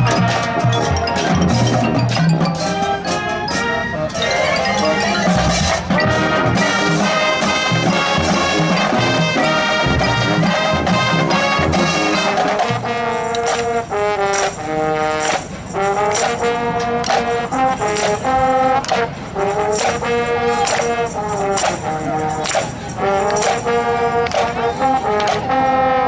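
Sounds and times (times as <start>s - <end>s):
marching band playing: 0.0s - 26.0s.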